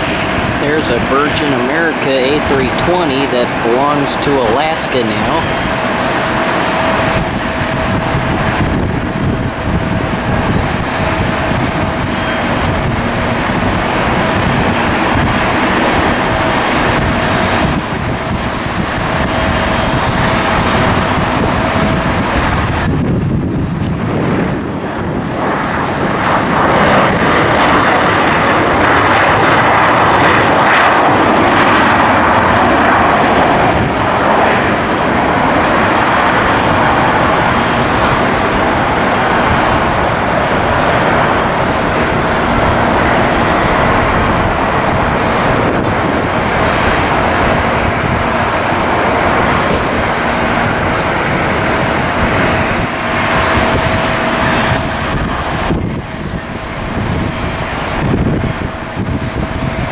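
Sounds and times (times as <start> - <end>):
jet engines whining: 0.0 - 59.9
wind buffeting microphone: 0.0 - 59.9.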